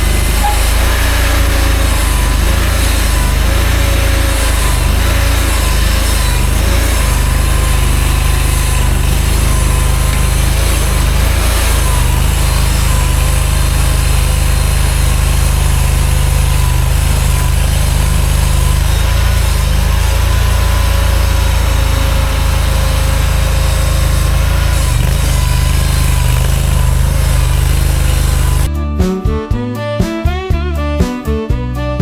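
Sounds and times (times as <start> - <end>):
skid steer engine running: 0.0 - 28.7.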